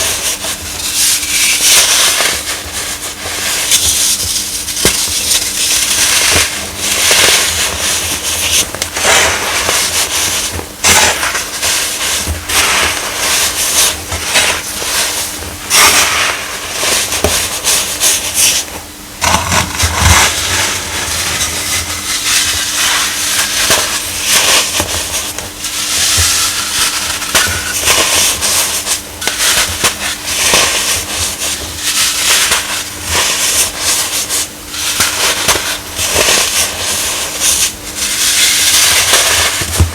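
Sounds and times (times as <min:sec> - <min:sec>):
baking soda crunching: 0:00.0 - 0:39.9.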